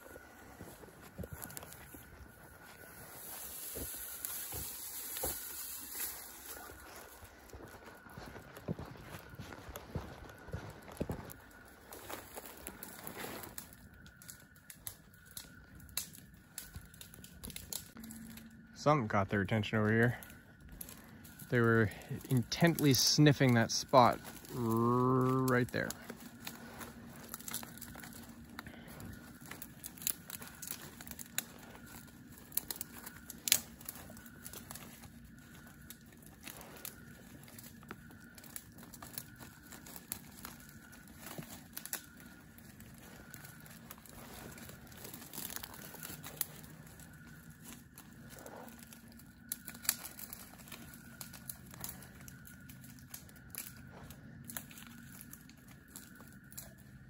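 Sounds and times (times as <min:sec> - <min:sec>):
faint steady hum: 0:00.0 - 0:57.0
leaves and twigs crunching underfoot: 0:00.0 - 0:57.0.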